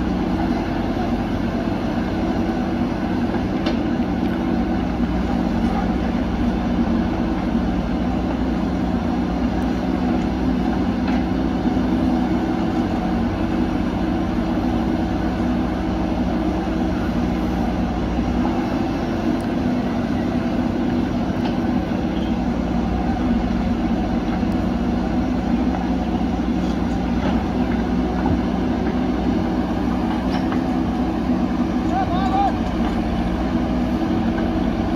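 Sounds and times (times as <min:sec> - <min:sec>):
diesel engines droning: 0:00.0 - 0:34.9.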